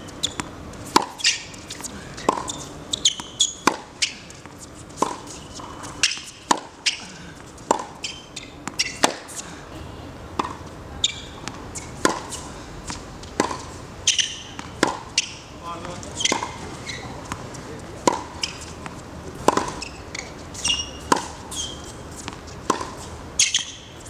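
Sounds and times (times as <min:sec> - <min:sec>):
shoes squeaking on court: 0:00.0 - 0:09.5, 0:10.4 - 0:24.0
tennis ball hits and bounces: 0:00.2 - 0:09.4, 0:10.3 - 0:24.0.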